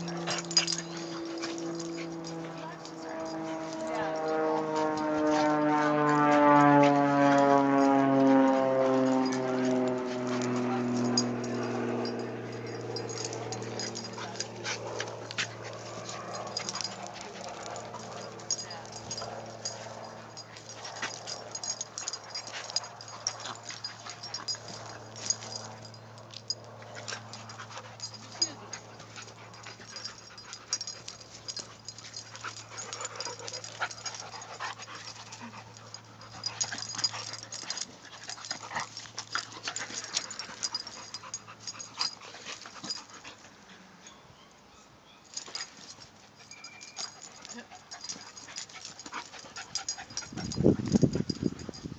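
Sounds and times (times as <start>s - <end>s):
dogs scuffling and mouthing: 0.0s - 44.2s, 45.2s - 51.9s.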